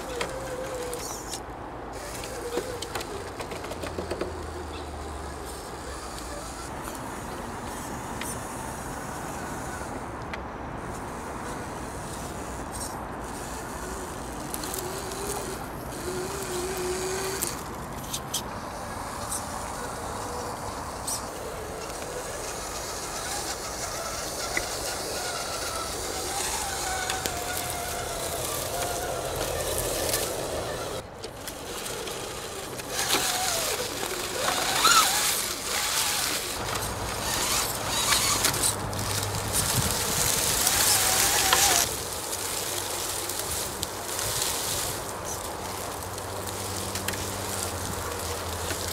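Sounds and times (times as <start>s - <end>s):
toy car electric motor whining: 0.0s - 48.9s.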